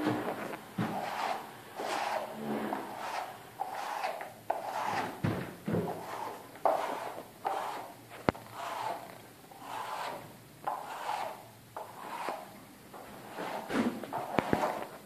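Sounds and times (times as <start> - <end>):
float scraping plaster: 0.0 - 15.0.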